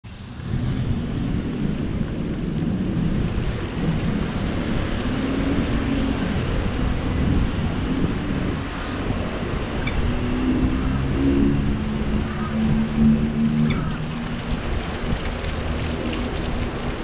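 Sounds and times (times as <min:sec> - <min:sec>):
street ambience rumble: 0:00.0 - 0:17.0.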